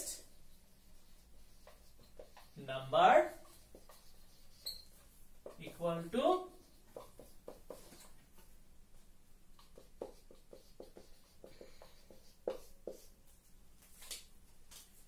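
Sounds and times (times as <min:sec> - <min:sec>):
marker writing on whiteboard: 0:00.0 - 0:08.6, 0:09.5 - 0:13.4.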